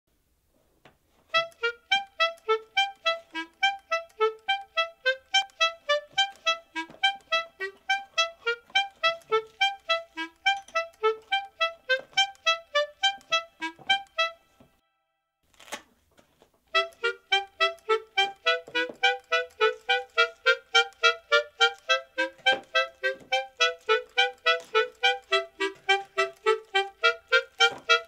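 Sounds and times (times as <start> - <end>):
background music of short notes: 1.3 - 15.0, 16.7 - 28.0.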